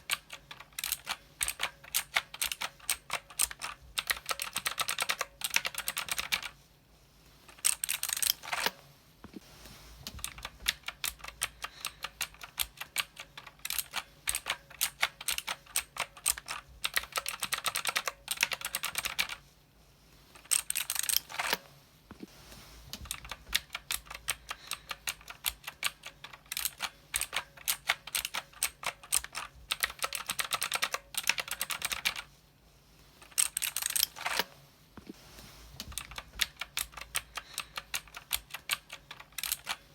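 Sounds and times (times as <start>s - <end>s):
mechanical keyboard typing: 0.0s - 6.6s, 7.5s - 8.8s, 10.1s - 19.4s, 20.4s - 21.6s, 23.0s - 32.3s, 33.2s - 34.5s, 35.8s - 39.9s.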